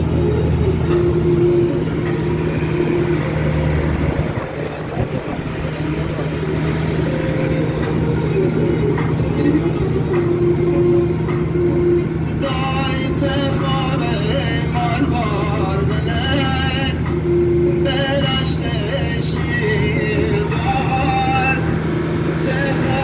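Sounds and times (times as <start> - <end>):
high held tone: 0.0 - 19.5
minibus engine humming: 0.0 - 23.0.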